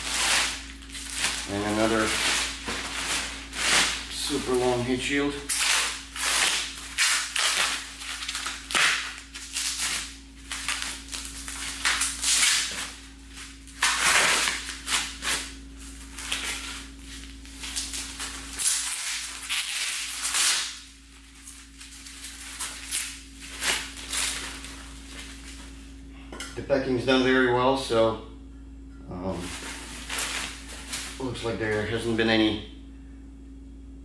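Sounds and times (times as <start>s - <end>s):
packing material crinkling: 0.0s - 25.9s, 29.3s - 32.2s
low hum: 0.0s - 34.0s.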